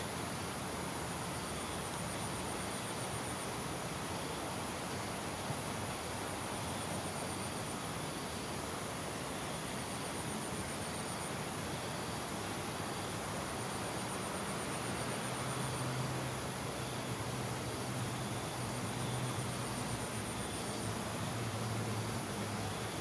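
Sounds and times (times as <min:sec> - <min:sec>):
background hiss: 0:00.0 - 0:23.0
insects buzzing: 0:00.0 - 0:23.0.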